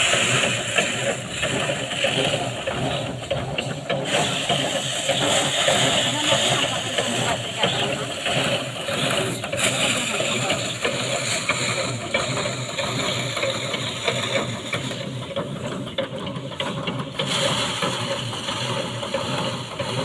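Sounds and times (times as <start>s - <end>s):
thresher drum rattling: 0.0s - 20.0s.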